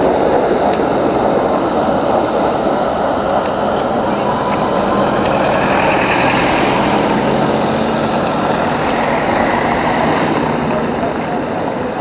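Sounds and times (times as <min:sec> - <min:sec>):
car engine running: 0:00.0 - 0:12.0
street traffic noise: 0:00.0 - 0:12.0.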